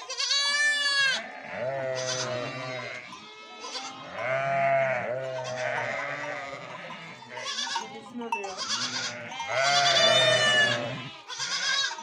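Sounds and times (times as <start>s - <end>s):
sheep bleating: 0.0s - 12.0s.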